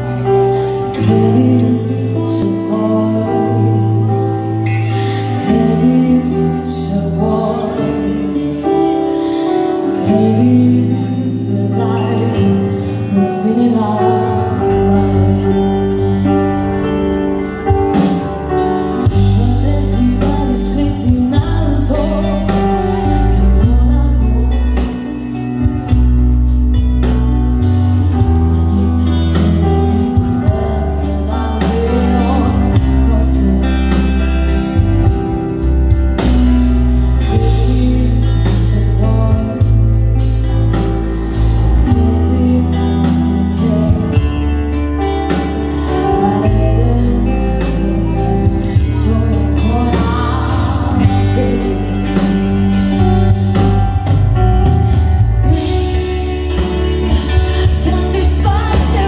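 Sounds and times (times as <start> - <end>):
woman singing: 0.0 - 54.1, 54.8 - 59.0
bass: 0.0 - 59.0
drums: 0.0 - 59.0
electric guitar: 0.0 - 59.0
keyboard: 0.0 - 59.0.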